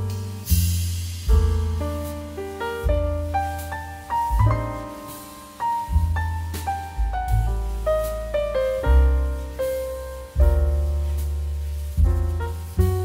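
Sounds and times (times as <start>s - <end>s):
deep bass notes: 0.0s - 13.0s
piano melody: 0.0s - 13.0s.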